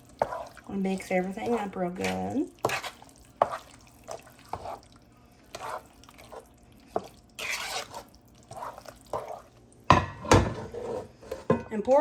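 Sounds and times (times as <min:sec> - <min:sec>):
wet squelching stirring: 0:00.0 - 0:12.0.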